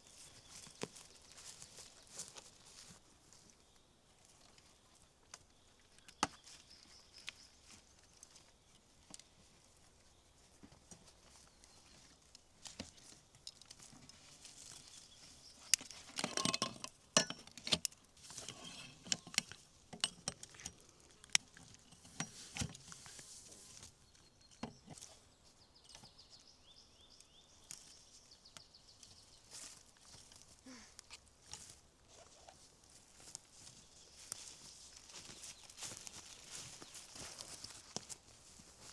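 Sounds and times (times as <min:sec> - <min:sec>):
movement over forest floor: 0:00.0 - 0:38.9.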